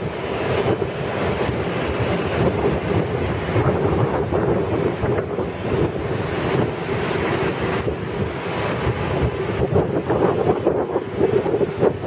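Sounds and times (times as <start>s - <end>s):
train equipment humming: 0.0s - 12.0s
wind buffeting microphone: 0.0s - 12.0s.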